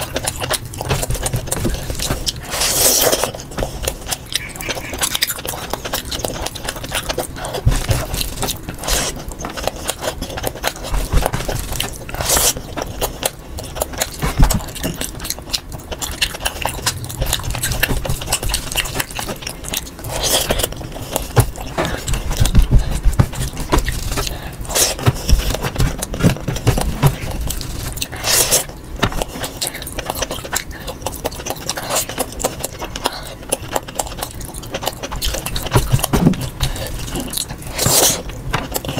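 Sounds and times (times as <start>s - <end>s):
man chewing with wet smacking: 0.0s - 38.9s.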